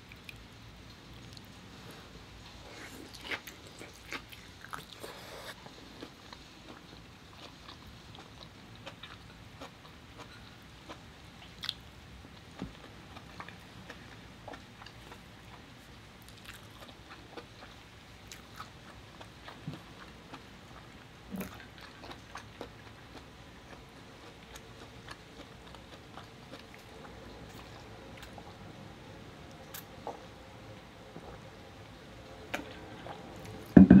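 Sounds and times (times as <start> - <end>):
person chewing with wet clicks: 0.0 - 1.6, 2.7 - 28.6, 29.5 - 30.3.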